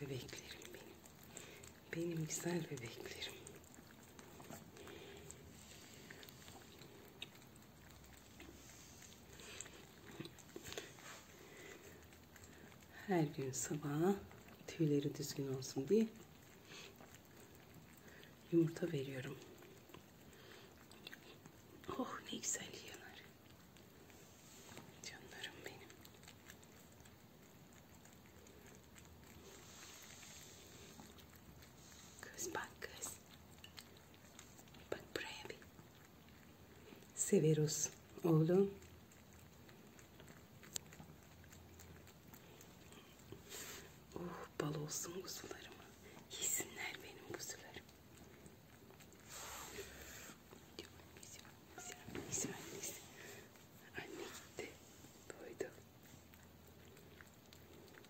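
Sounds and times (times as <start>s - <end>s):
cats lapping and chewing: 0.0s - 58.0s.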